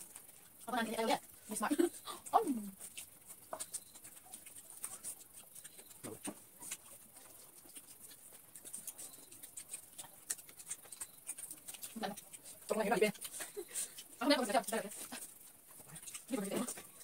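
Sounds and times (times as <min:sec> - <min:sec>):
chewing and mouth smacks: 0:00.0 - 0:17.0.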